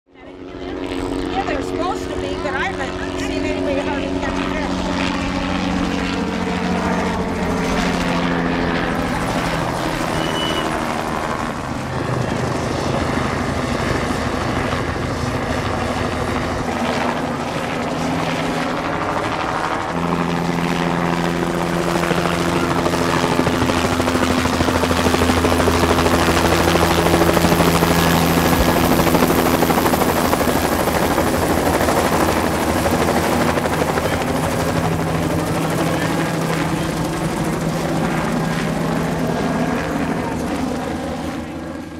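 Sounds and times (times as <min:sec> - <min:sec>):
helicopter flying overhead: 0:00.1 - 0:41.9.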